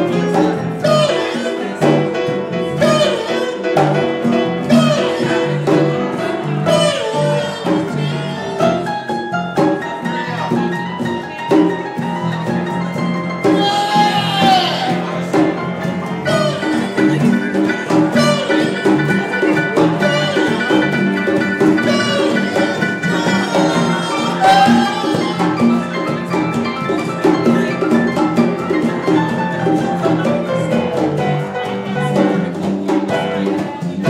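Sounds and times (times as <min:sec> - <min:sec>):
guitar: 0:00.0 - 0:34.0
hand drums: 0:00.0 - 0:34.0.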